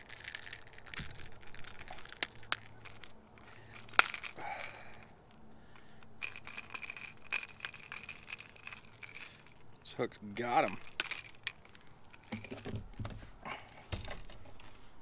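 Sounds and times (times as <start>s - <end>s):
hook and lure rattling: 0.0s - 13.1s, 13.9s - 14.8s.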